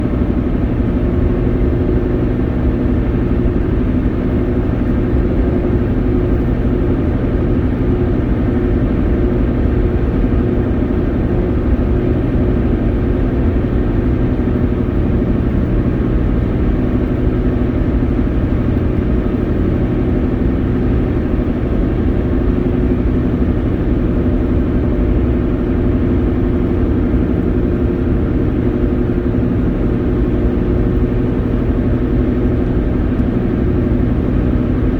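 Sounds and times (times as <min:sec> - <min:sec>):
pickup engine and road drone: 0:00.0 - 0:34.9.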